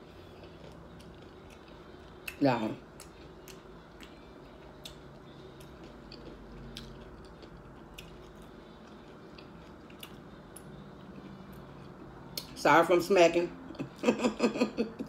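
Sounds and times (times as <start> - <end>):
chewing and lip-smacking: 0.0 - 12.6.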